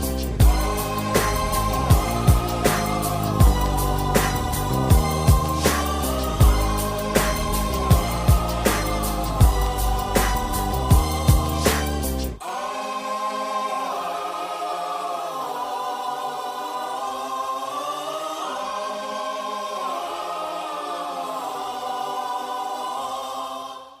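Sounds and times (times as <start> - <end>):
choir holding wordless chord: 0.0 - 24.0.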